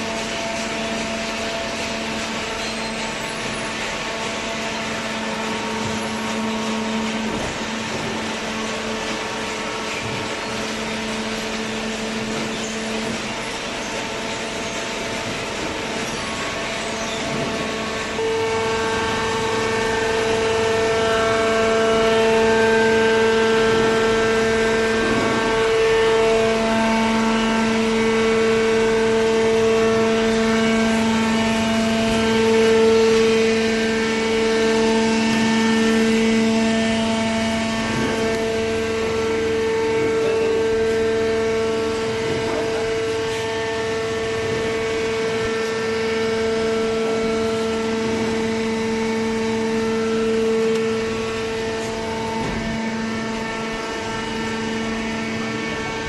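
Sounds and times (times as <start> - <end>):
hydraulic pump motor whine: 0.0 - 56.0.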